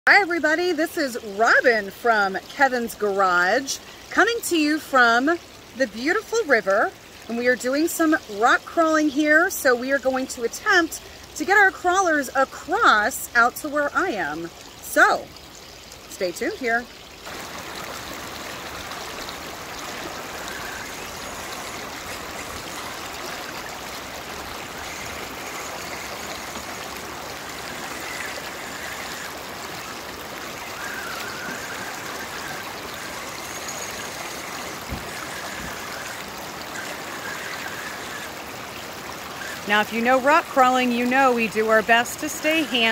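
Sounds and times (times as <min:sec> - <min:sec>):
creek water over rocks: 0:00.1 - 0:42.9.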